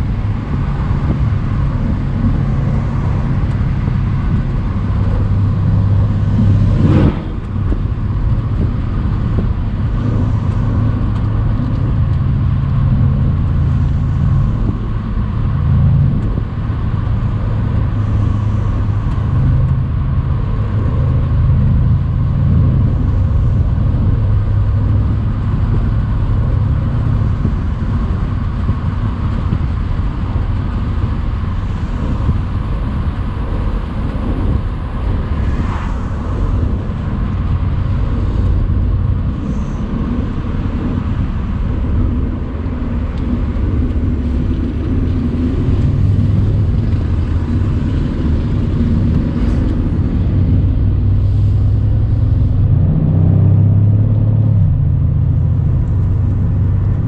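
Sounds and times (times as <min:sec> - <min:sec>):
car engine cruising: 0:00.0 - 0:57.0
wind noise: 0:00.0 - 0:57.0.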